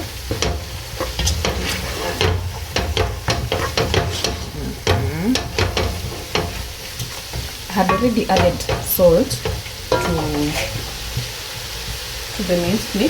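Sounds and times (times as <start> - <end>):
meat sizzling in a pan: 0.0 - 13.0
utensil scraping a pan: 0.0 - 13.0.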